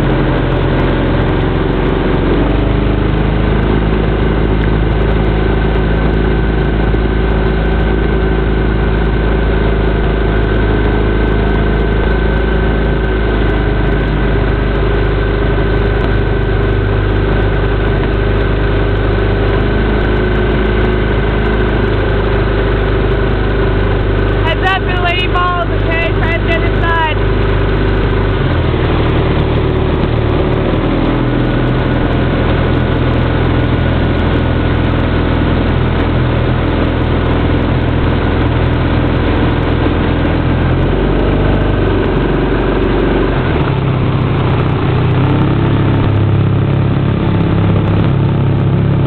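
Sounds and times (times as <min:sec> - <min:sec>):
outboard motor running: 0:00.0 - 0:49.0.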